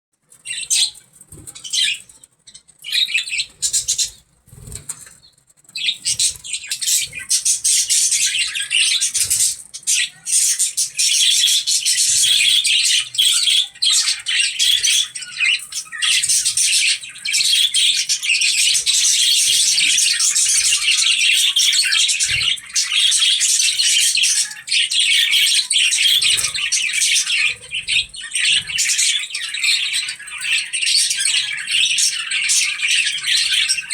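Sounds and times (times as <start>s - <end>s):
budgies chattering and warbling: 0.3s - 33.9s.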